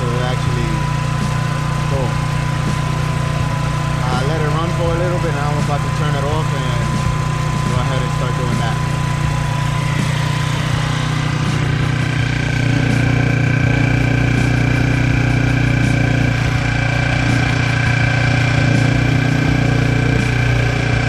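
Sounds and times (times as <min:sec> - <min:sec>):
high engine whine: 0:00.0 - 0:21.0
scooter engine idling: 0:00.0 - 0:21.0.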